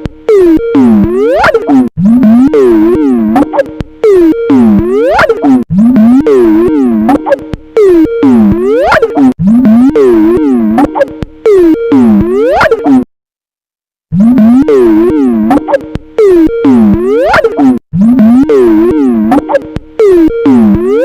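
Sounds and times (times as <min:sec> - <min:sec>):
warped ringtone melody: 0:00.3 - 0:13.1, 0:14.2 - 0:21.0.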